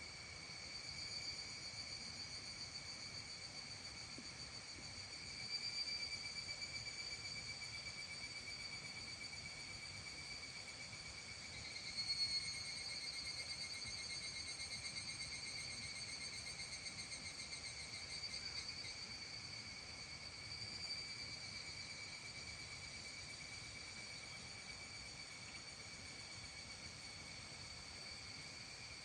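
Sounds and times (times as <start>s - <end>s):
faint rural background hum: 0.0s - 29.0s
trilling insects: 0.0s - 29.0s.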